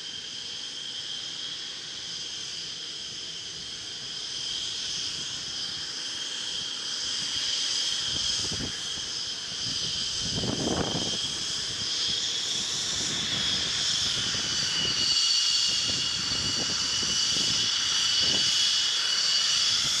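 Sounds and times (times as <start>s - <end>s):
jet engine whine: 0.0s - 20.0s.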